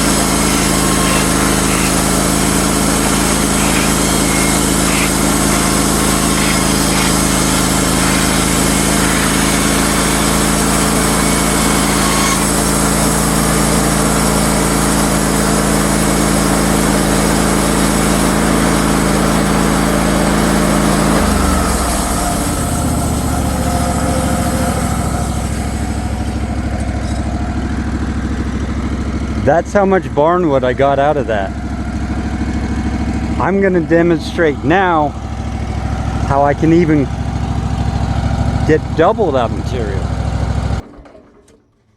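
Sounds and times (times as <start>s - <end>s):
sawmill engine droning: 0.0s - 41.9s.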